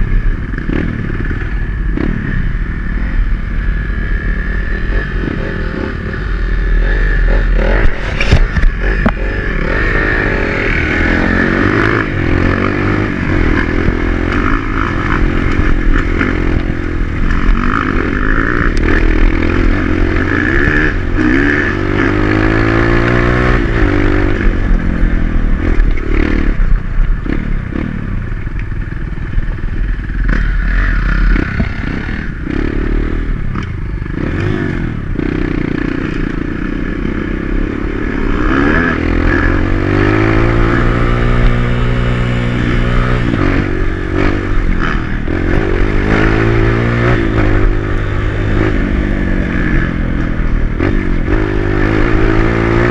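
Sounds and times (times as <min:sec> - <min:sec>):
dirt bike engine revving: 0:00.0 - 0:28.4, 0:29.0 - 0:52.9.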